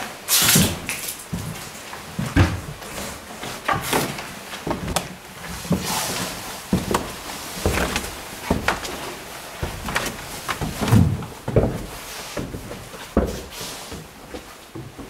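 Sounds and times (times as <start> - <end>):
footsteps on stairs: 0.7 - 15.0
clothing rustle: 1.0 - 15.0.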